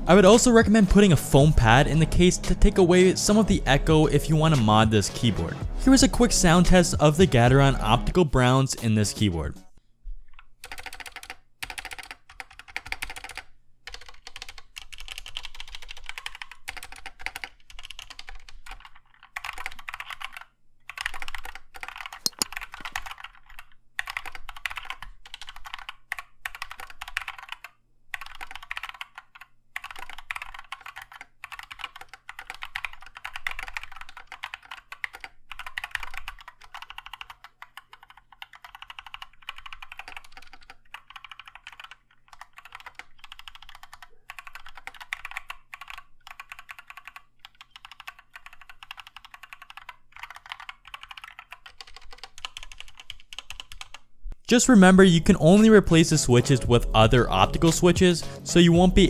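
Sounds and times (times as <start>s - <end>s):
fast keyboard typing: 10.6s - 59.0s.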